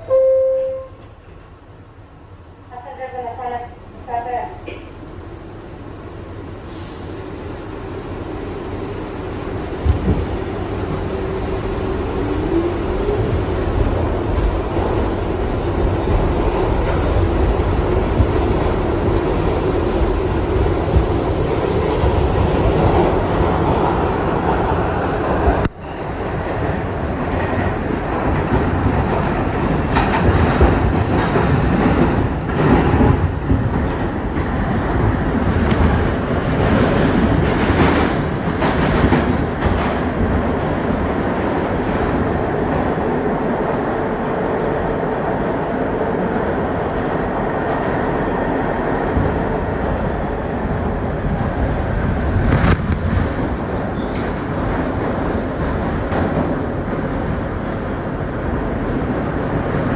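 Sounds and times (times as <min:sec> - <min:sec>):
subway train wheels rumbling: 0:00.0 - 0:59.9
wheels clickety-clack over rail joints: 0:09.6 - 0:59.9.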